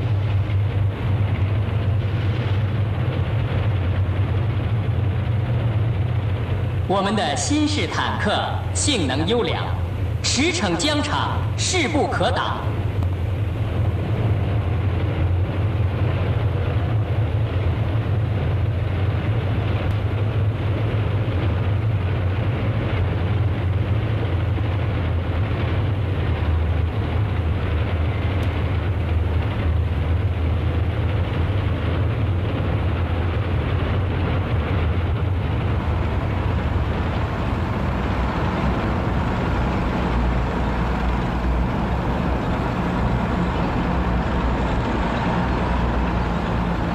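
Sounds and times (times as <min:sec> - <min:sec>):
tanks rumbling past: 0:00.0 - 0:46.9.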